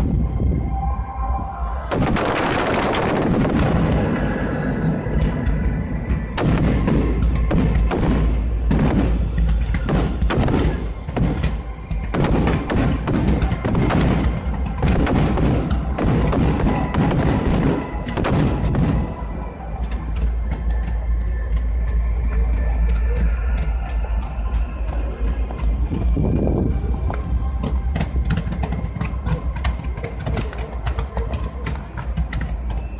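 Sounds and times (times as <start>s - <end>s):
deep rumble: 0.0s - 32.9s
music playing: 0.0s - 32.9s
fireworks booming and crackling: 1.8s - 32.9s.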